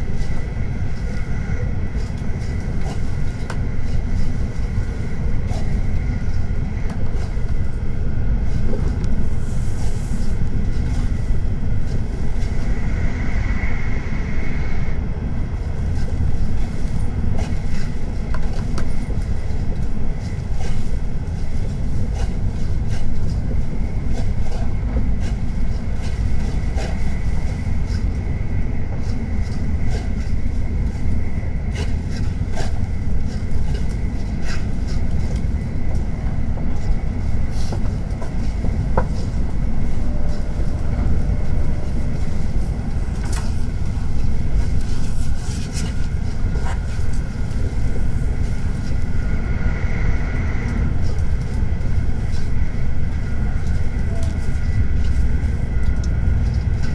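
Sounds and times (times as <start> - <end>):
faint steady whine: 0.0 - 56.9
train low rumble: 0.0 - 56.9.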